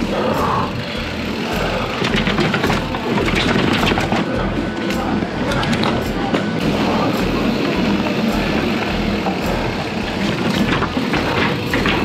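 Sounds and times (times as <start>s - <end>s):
bike tyres rolling and rattling: 0.0s - 12.0s.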